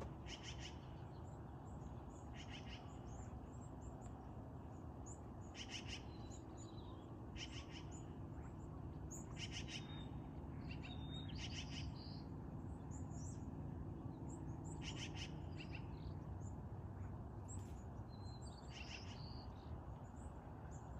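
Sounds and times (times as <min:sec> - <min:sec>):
birds calling: 0:00.0 - 0:04.2, 0:04.8 - 0:13.5, 0:14.2 - 0:20.9.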